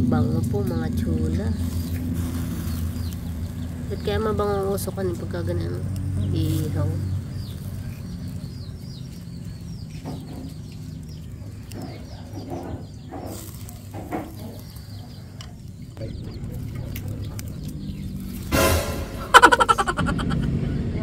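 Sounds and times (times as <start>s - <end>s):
birds chirping: 0.0s - 21.0s
low bird calls: 1.2s - 18.7s.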